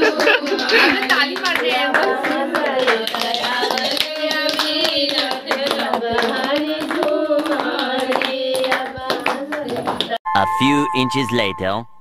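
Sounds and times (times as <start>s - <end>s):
hand clapping: 0.0s - 10.2s
women singing in unison: 0.0s - 10.2s.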